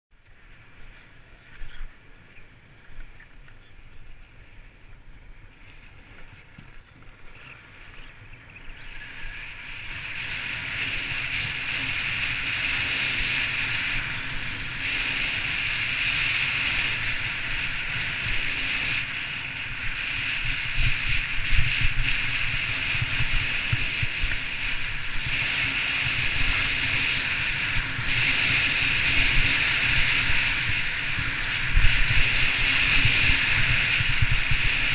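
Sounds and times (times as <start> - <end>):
wind rushing over microphone: 4.0 - 34.9
skis carving on snow: 5.4 - 34.9.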